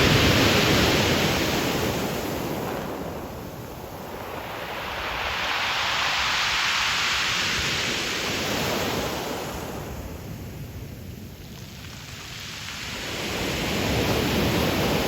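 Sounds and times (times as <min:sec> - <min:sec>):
low rumble of surf: 0:00.0 - 0:15.0
wave washing on pebble beach: 0:00.0 - 0:15.0.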